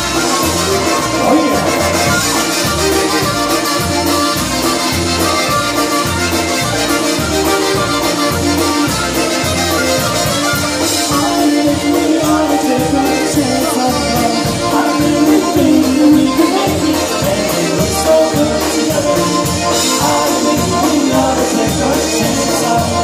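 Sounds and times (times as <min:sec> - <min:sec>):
polka band playing: 0:00.0 - 0:23.0.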